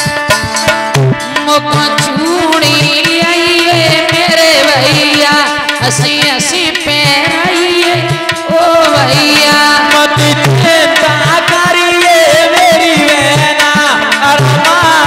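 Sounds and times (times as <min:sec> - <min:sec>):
hand drum beat: 0:00.0 - 0:15.0
person singing folk song: 0:01.2 - 0:15.0.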